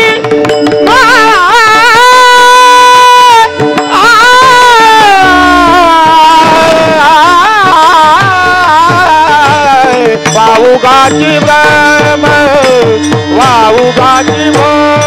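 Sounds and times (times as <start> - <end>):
instrumental accompaniment: 0.0 - 15.0
person singing long notes: 0.8 - 15.0.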